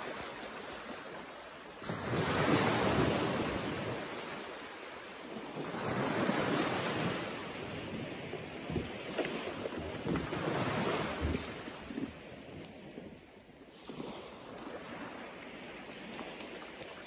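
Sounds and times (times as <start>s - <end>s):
waves washing up beach: 0.0s - 17.0s.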